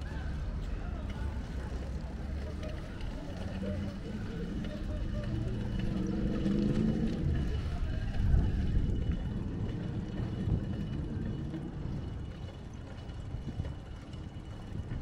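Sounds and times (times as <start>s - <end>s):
quiet street ambience: 0.0s - 15.0s
wind rumbling on microphone: 0.0s - 15.0s.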